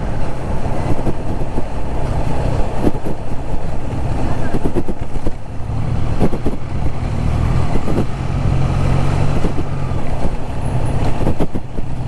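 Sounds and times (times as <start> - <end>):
road noise: 0.0 - 12.0
wind rush: 0.0 - 12.0.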